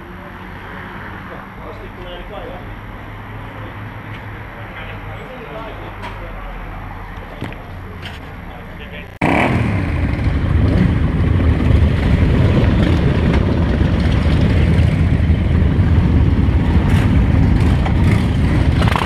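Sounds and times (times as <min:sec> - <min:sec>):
motorcycle engines idling: 0:01.2 - 0:19.0.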